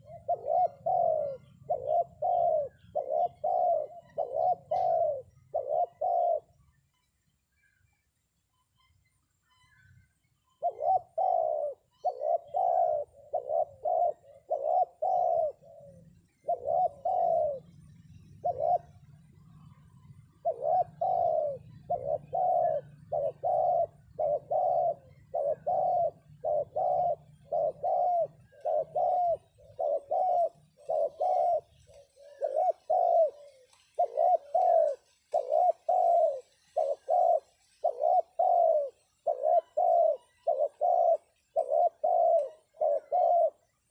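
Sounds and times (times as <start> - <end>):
dove cooing: 0.0 - 6.9, 9.5 - 43.9.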